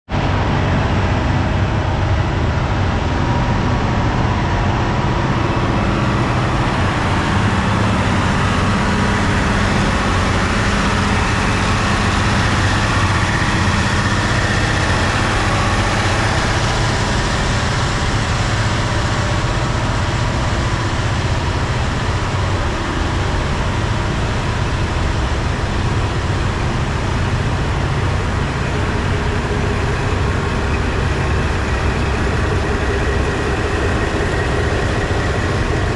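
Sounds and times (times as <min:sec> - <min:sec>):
dense rushing noise: 0:00.1 - 0:35.9
diesel railcar engine idling: 0:00.2 - 0:35.9.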